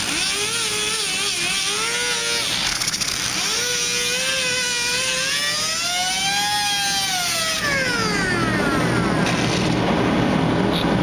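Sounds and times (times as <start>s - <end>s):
disc grinder whining on metal: 0.0s - 9.8s.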